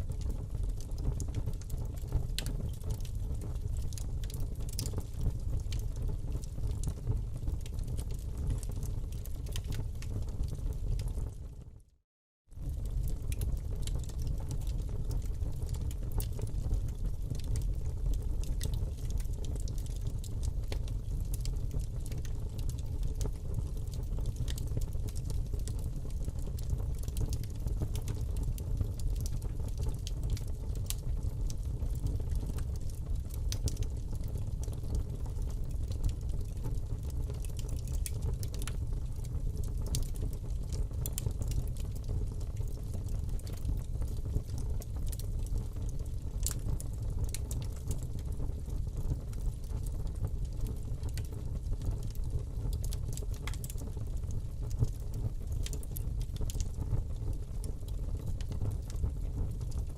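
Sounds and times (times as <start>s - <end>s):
fire crackling in fireplace: 0.0s - 11.9s, 12.5s - 59.9s.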